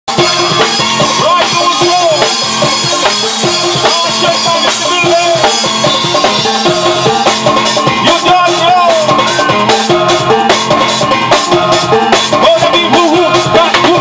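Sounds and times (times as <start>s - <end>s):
drum kit beat: 0.1s - 14.0s
sustained melodic instruments: 0.1s - 14.0s.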